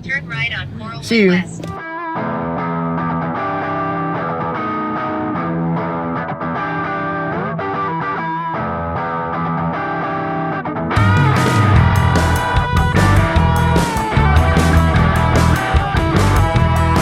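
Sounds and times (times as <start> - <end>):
distorted electric guitar chords: 1.5 - 17.0.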